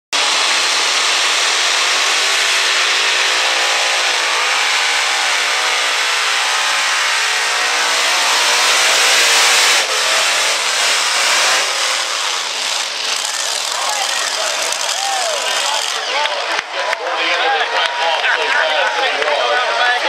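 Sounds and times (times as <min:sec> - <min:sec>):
pulling tractor engines roaring: 0:00.1 - 0:20.0.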